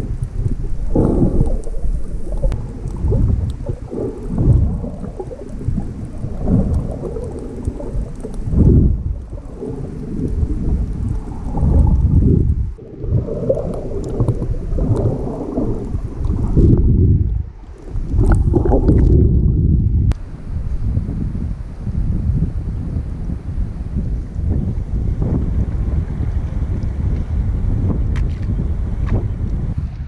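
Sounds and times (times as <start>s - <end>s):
muffled underwater water churning: 0.0s - 28.0s.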